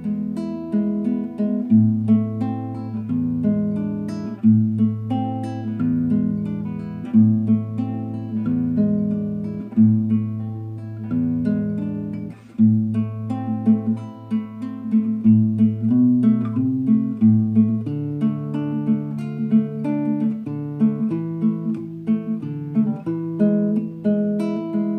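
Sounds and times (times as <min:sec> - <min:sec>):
fingerstyle acoustic guitar: 0:00.0 - 0:24.9.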